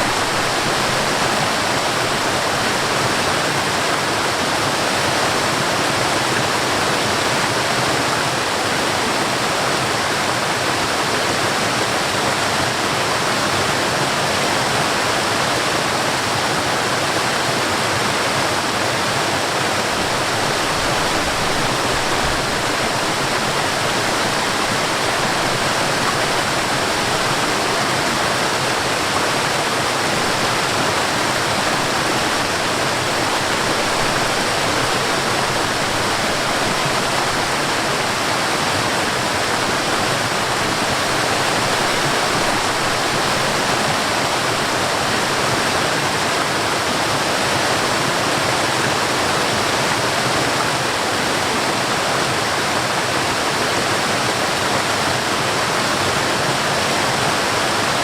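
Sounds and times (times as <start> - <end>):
water rushing over waterfall: 0.0 - 58.0.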